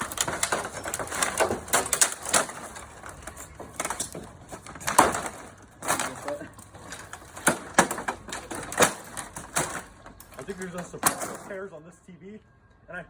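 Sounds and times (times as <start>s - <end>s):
sharp knocks and clatters: 0.0s - 11.6s.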